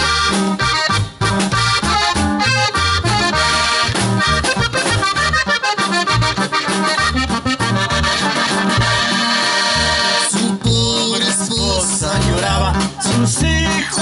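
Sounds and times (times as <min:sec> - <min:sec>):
accordion melody: 0:00.0 - 0:14.0
drum kit: 0:00.0 - 0:14.0
steady bass beat: 0:00.0 - 0:14.0
strummed guitar: 0:00.0 - 0:14.0.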